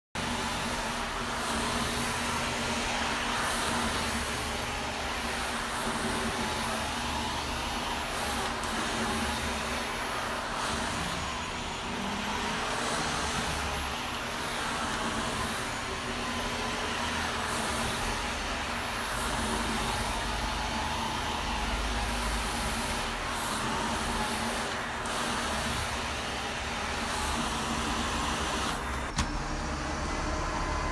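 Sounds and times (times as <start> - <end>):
vacuum cleaner running: 0.2 - 30.9.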